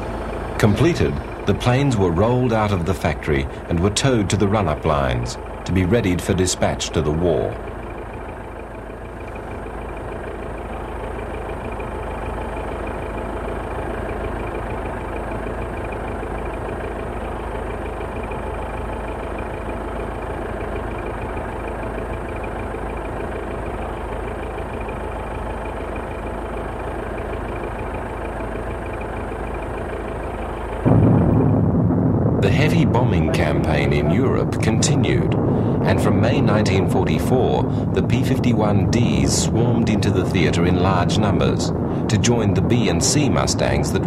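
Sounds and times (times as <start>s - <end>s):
faint high whine: 0.0s - 26.3s, 27.1s - 44.0s
engine running: 0.0s - 44.0s.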